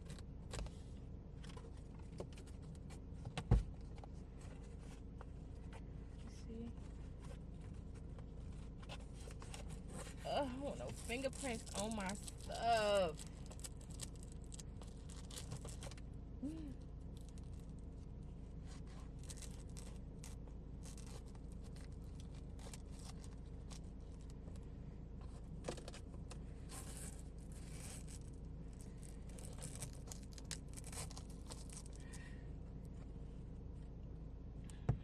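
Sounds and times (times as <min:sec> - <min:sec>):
low steady hum: 0:00.0 - 0:35.0
plastic rustling and crinkling: 0:03.7 - 0:32.2.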